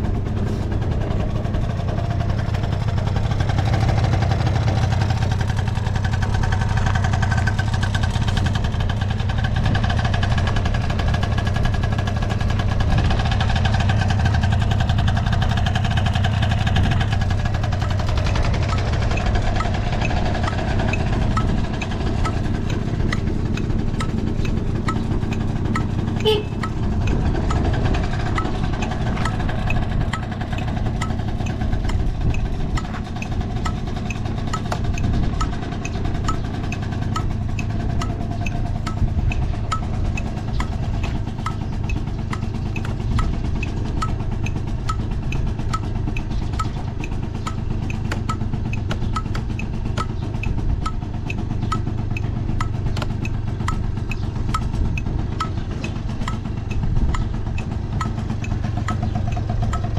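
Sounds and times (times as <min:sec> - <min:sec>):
light regular ticking: 0:00.0 - 0:59.9
scooter engine idling: 0:00.0 - 0:59.9.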